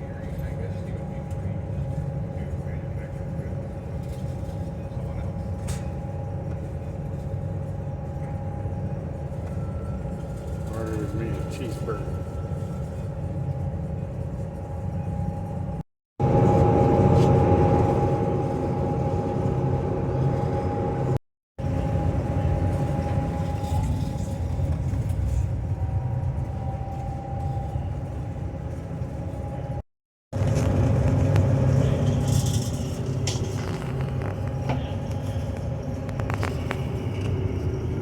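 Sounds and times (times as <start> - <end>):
ferry engine drone: 0.0 - 38.0.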